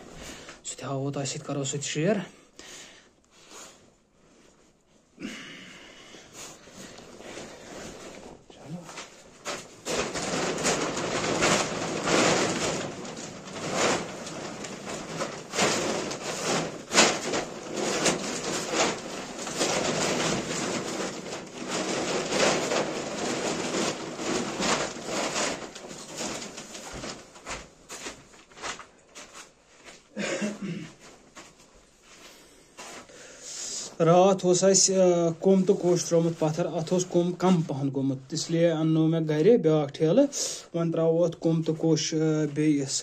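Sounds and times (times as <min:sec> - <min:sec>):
plastic tarpaulin crinkling: 0:03.4 - 0:43.0.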